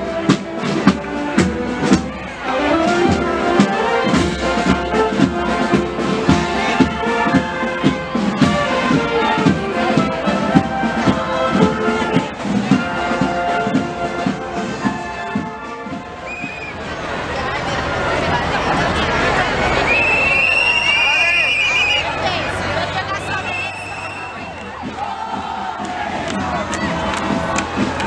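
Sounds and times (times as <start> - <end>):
marching wind band playing: 0.0 - 28.0.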